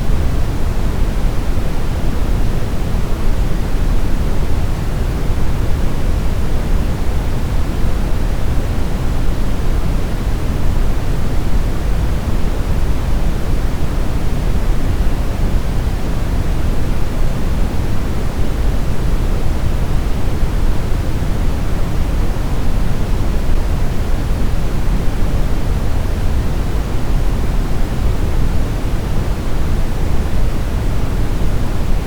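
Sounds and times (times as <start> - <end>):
brown noise hiss: 0.0 - 32.0.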